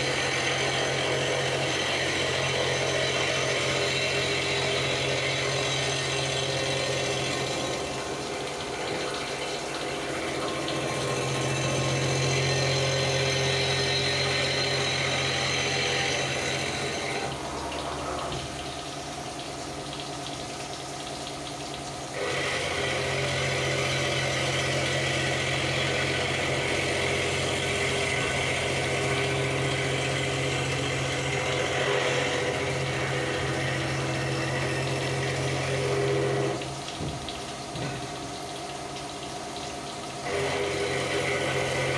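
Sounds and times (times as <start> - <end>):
hiss of cutting and coolant: 0.0 - 41.9
milling machine spindle hum: 0.0 - 41.9.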